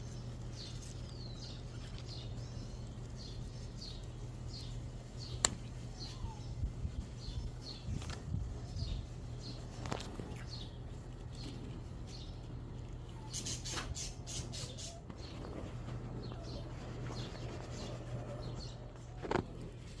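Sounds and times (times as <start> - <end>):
birds chirping: 0.0 - 20.0
crackling rustle: 0.0 - 20.0
steady low hum: 0.0 - 20.0.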